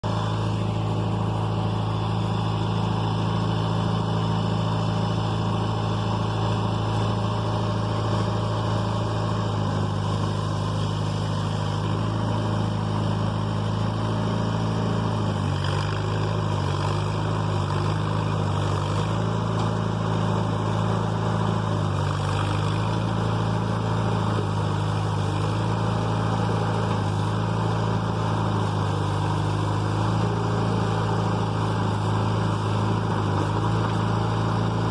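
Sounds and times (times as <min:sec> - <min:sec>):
backhoe diesel engine running: 0:00.0 - 0:34.9.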